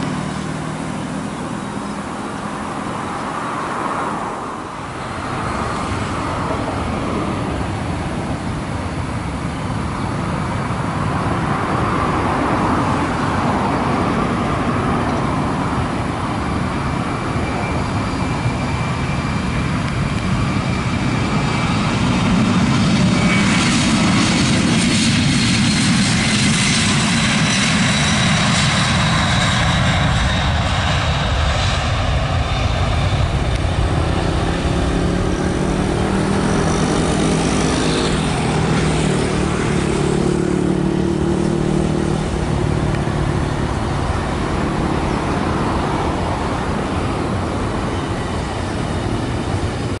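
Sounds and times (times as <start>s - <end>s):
jet engines high whine: 0.0s - 50.0s
jet low droning rumble: 0.0s - 50.0s.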